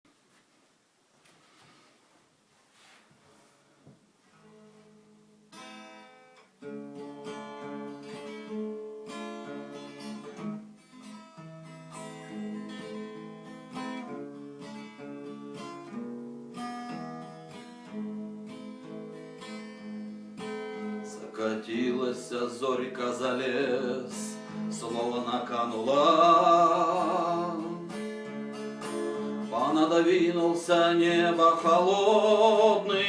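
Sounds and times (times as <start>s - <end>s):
acoustic guitar playing: 4.3s - 33.0s.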